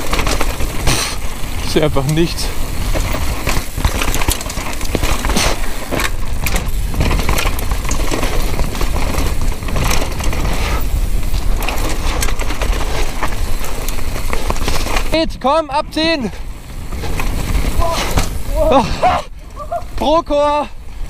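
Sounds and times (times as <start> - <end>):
tyres clattering over rocks: 0.0 - 15.2, 15.9 - 20.2
bike chain and frame rattling: 0.0 - 21.0
wind rumbling on microphone: 0.0 - 21.0.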